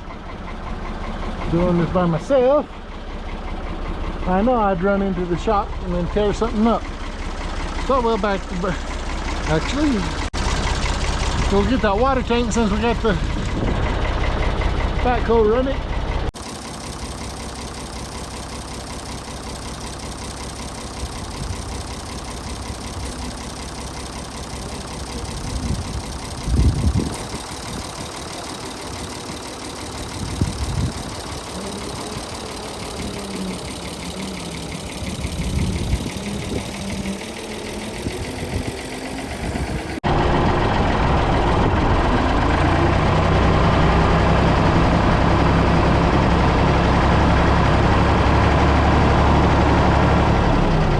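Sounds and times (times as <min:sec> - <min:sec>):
backhoe engine running: 0:00.0 - 0:50.9.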